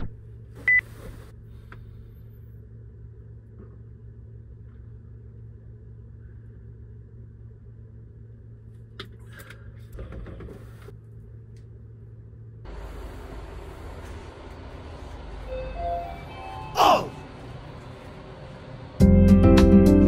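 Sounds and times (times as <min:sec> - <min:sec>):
low ventilation hum: 0:00.0 - 0:20.0.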